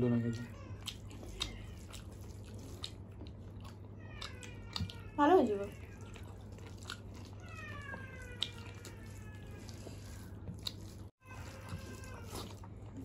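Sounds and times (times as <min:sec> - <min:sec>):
soft chewing: 0:00.0 - 0:13.0
wet clicks of fingers mixing food: 0:00.0 - 0:13.0.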